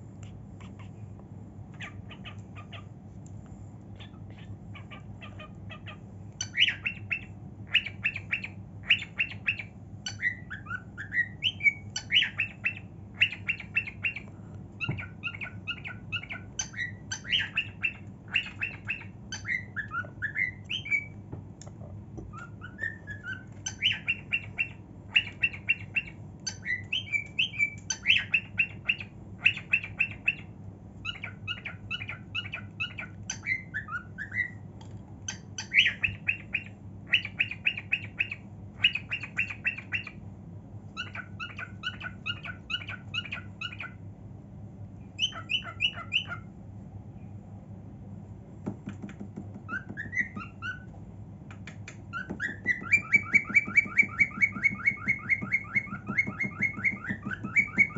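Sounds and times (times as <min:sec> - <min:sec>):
cockatiel singing: 0:01.7 - 0:02.9, 0:04.0 - 0:21.3, 0:22.2 - 0:40.2, 0:40.9 - 0:44.0, 0:45.2 - 0:46.5, 0:48.8 - 0:50.9, 0:51.5 - 0:57.9.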